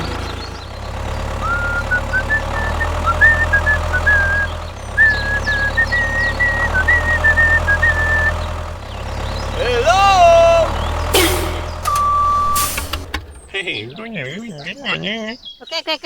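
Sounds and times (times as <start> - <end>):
small engine running: 0.0 - 13.8.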